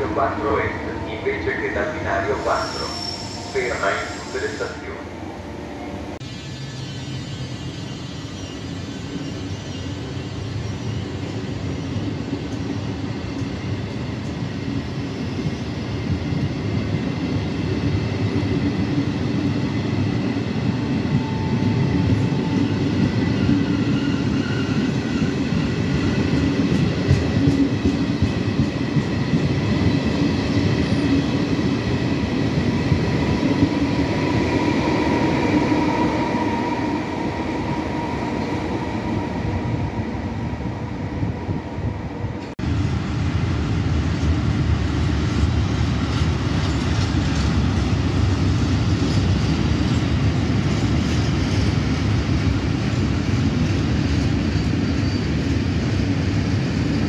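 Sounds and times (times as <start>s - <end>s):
train wheels rumbling on rails: 6.0s - 57.0s.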